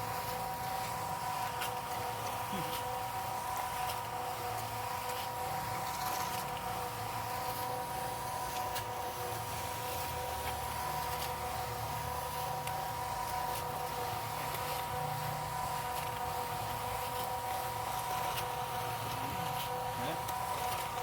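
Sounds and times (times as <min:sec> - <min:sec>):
concrete mixer running: 0:00.0 - 0:21.0.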